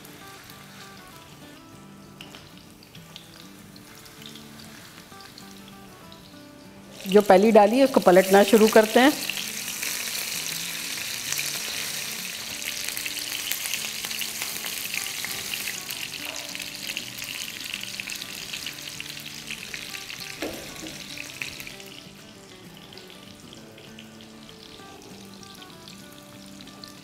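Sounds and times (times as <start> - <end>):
meat sizzling in hot oil: 0.0 - 27.0
spatula turning food in pan: 0.0 - 27.0.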